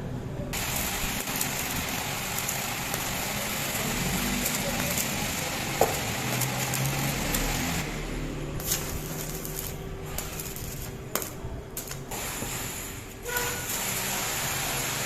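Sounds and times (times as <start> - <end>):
arc welding crackling: 0.5 - 15.0.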